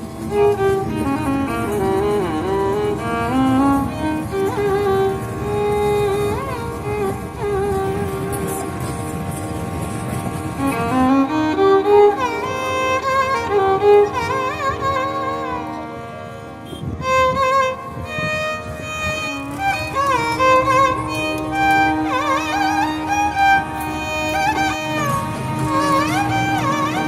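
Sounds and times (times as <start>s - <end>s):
held drone note: 0.0s - 27.0s
sliding wavering melody: 0.0s - 27.0s.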